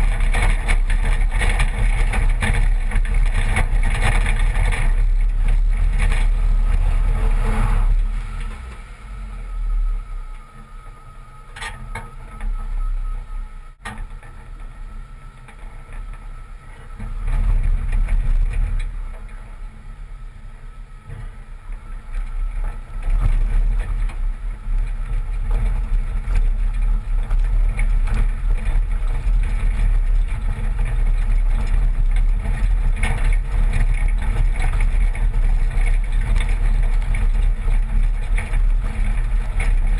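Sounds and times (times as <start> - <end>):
engine and tyres rumbling on gravel: 0.0 - 39.9.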